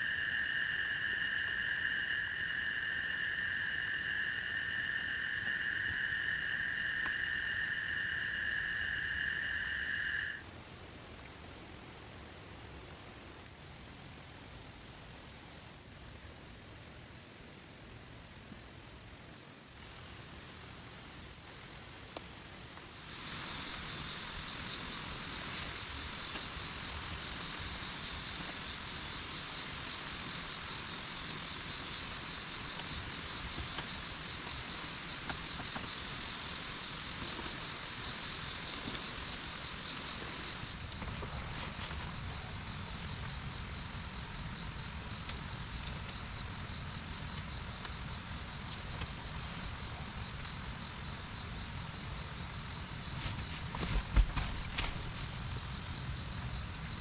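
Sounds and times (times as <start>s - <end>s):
insect trill: 0.0s - 10.5s, 15.5s - 57.0s
steady hiss: 0.0s - 57.0s.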